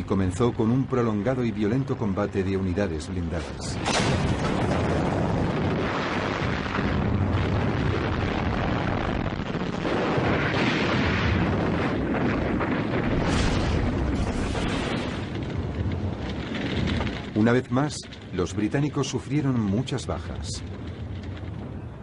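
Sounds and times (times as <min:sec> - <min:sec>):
explosions and shellfire: 0:03.3 - 0:22.0.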